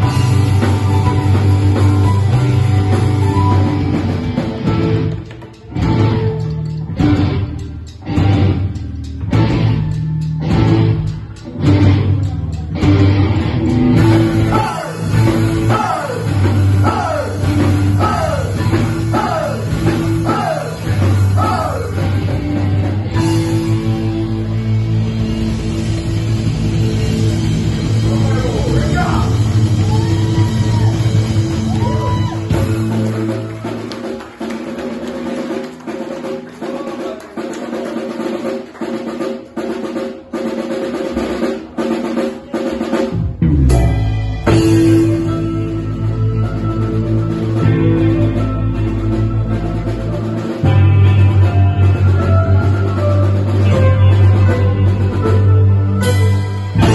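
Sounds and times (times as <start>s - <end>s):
high sliding guitar part: 0.0s - 34.4s, 43.1s - 56.9s
rock band playing loudly: 0.0s - 56.9s.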